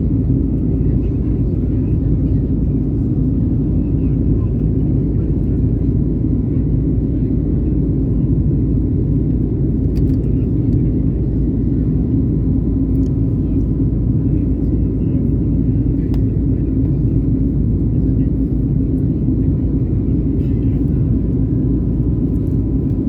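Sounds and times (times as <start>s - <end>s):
airliner engine rumble: 0.0s - 23.0s.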